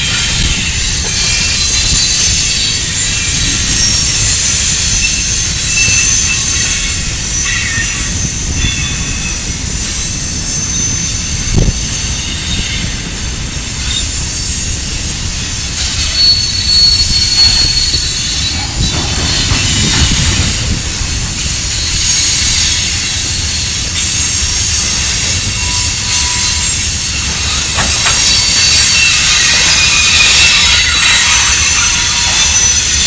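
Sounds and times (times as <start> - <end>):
high-pitched wheel squeal: 0.0 - 13.1, 13.8 - 33.0
steel wheels rumbling on rail: 0.0 - 33.0.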